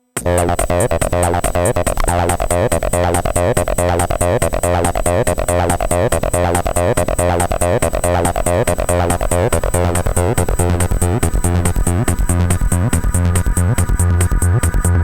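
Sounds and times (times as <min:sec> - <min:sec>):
acid synth line: 0:00.0 - 0:15.0
steady bass: 0:00.0 - 0:15.0
fast hi-hat ticks: 0:00.2 - 0:15.0.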